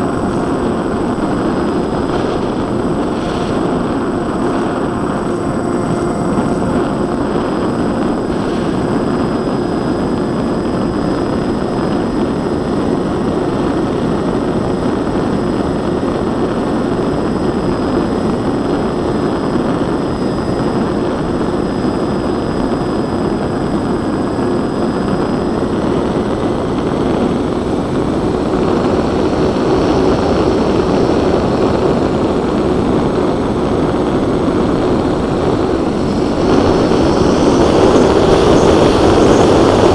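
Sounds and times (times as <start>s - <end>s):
electric motors and propellers droning: 0.0s - 39.9s
wind rush over microphone: 0.0s - 39.9s.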